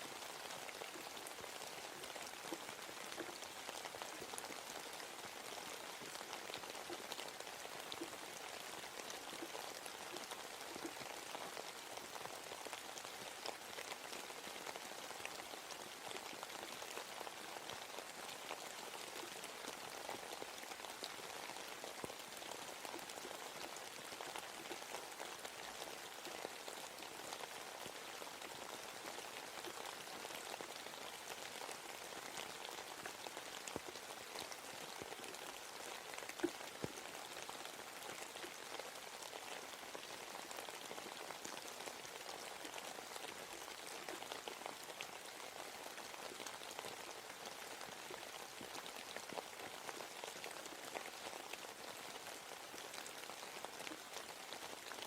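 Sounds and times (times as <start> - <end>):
rain pattering in forest: 0.0 - 55.0.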